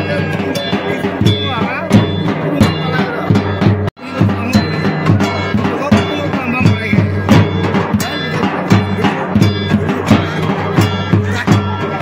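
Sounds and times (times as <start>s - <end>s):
bass drum beats: 0.0s - 12.0s
drum band playing: 0.0s - 12.0s.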